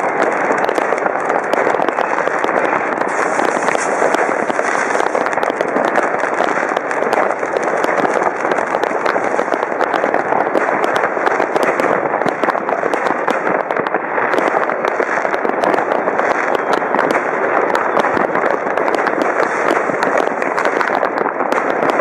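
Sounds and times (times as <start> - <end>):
fireworks and firecrackers crackling: 0.0 - 22.0.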